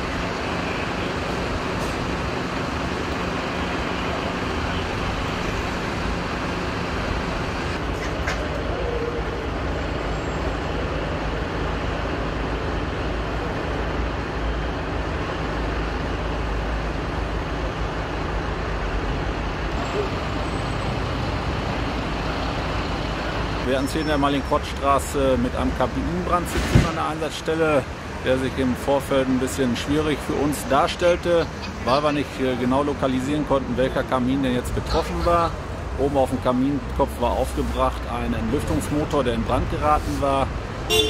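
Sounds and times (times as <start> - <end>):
heavy vehicle engine rumble: 0.0 - 41.0
road traffic noise: 0.0 - 41.0.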